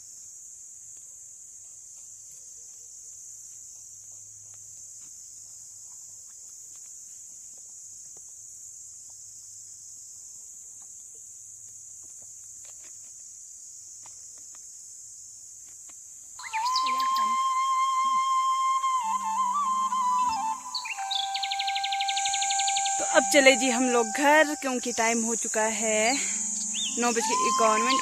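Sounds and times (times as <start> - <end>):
insect chorus buzzing: 0.0 - 28.0.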